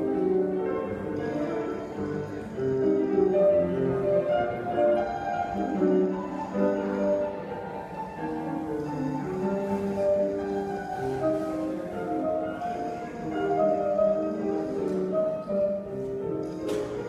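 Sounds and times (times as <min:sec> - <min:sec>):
solo grand piano: 0:00.0 - 0:17.0.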